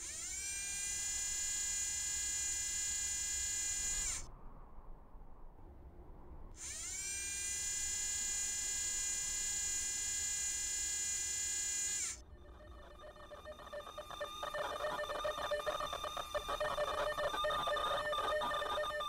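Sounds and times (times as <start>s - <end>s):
buzzing mechanical rattle: 0.0s - 4.3s, 6.6s - 19.0s
electric motor whine: 0.0s - 4.3s, 6.6s - 19.0s.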